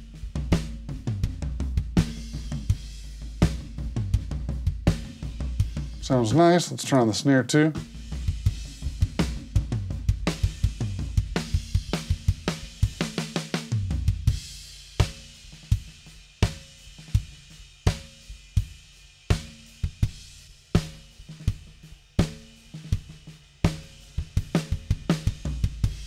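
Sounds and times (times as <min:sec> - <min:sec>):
drum kit playing: 0:00.0 - 0:26.0.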